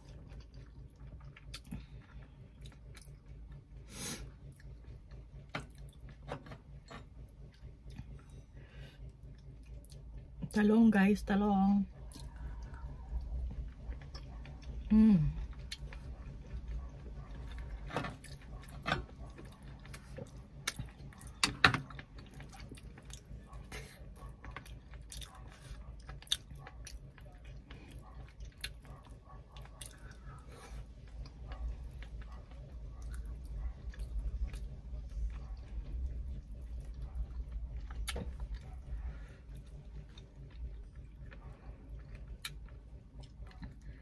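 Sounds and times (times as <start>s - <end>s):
chewing and lip smacks: 0.0s - 6.2s, 11.9s - 44.0s.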